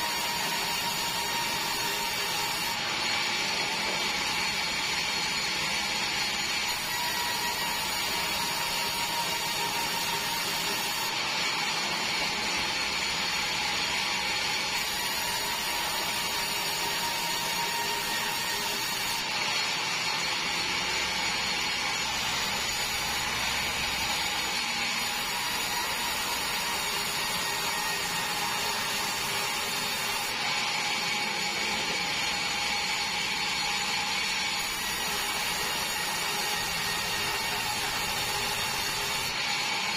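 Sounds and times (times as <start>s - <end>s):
band saw whining while cutting: 0.0s - 39.9s.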